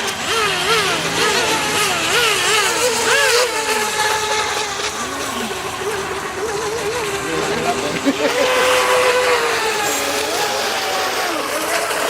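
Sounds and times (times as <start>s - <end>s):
model boat motors whining: 0.0s - 12.0s.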